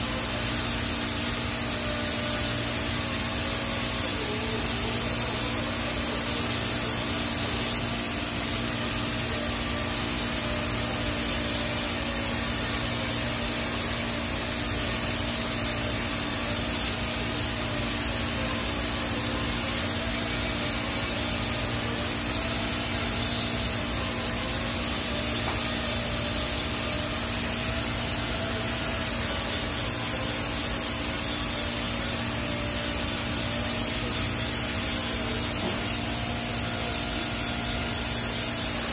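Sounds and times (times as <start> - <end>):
welding arc hissing: 0.0 - 38.9.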